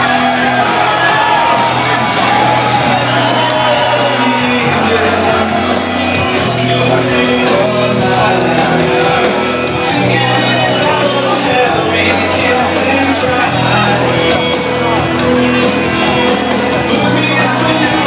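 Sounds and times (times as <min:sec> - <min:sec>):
crowd shouting: 0:00.0 - 0:18.0
loud music over speakers: 0:00.0 - 0:18.0.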